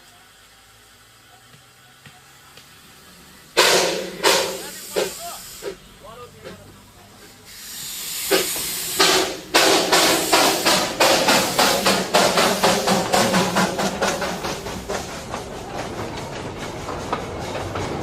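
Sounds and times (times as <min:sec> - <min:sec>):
steam hissing: 0:00.0 - 0:18.0
steam locomotive chuffing: 0:00.2 - 0:18.0.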